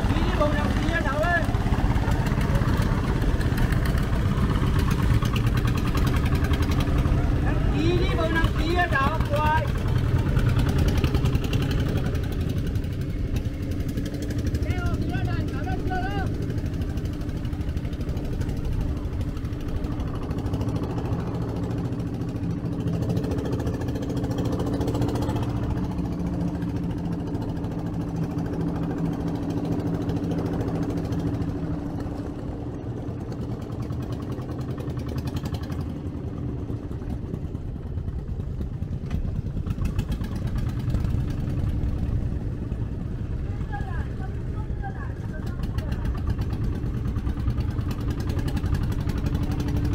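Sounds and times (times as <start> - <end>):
ferry boat engine running: 0.0 - 49.9.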